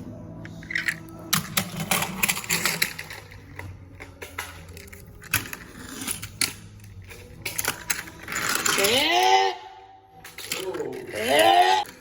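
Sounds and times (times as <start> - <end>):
toy trains clattering: 0.4 - 9.0, 10.2 - 12.0.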